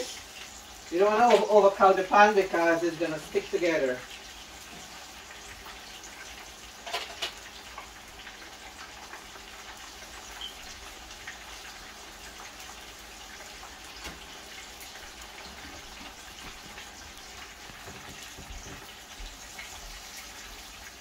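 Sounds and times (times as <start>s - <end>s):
fish sizzling in hot oil: 0.0s - 21.0s.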